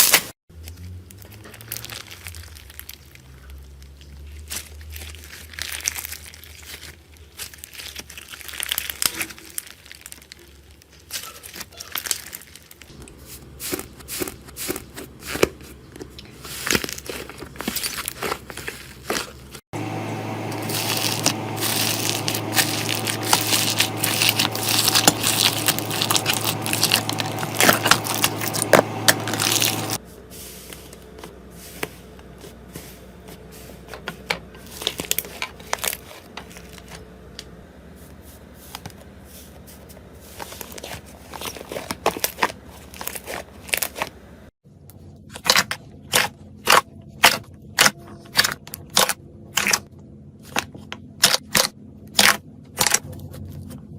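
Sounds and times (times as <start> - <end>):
crunchy slime crackling: 0.0 - 19.6, 20.5 - 30.0, 34.5 - 37.6, 38.7 - 44.4, 45.3 - 53.7.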